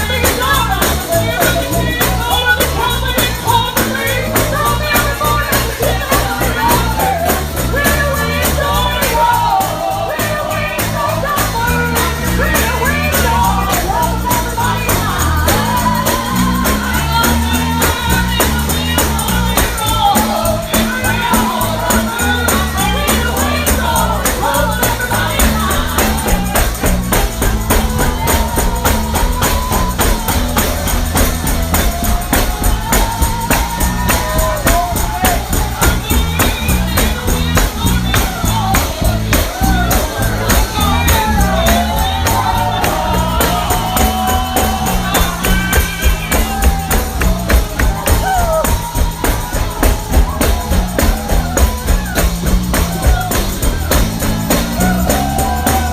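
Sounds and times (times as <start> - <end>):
bass line: 0.0 - 55.9
tambourine shaking: 0.0 - 55.9
voices singing gospel: 0.0 - 55.9.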